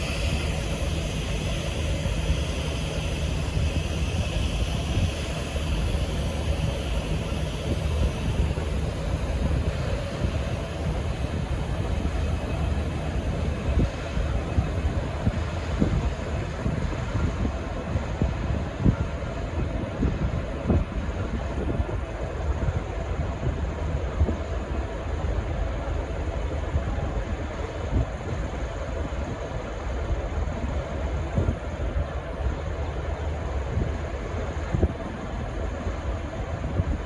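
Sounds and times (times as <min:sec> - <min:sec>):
diesel locomotive idling: 0:00.0 - 0:31.3.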